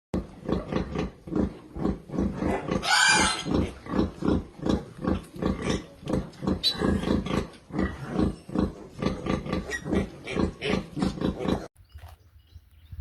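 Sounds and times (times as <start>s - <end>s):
pigs grunting: 0.2s - 11.7s
pig squealing: 0.4s - 5.9s, 6.5s - 11.7s.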